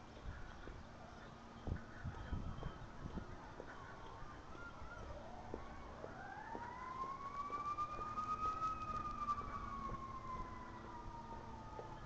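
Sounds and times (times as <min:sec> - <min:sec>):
faint siren wailing: 0:00.3 - 0:12.0.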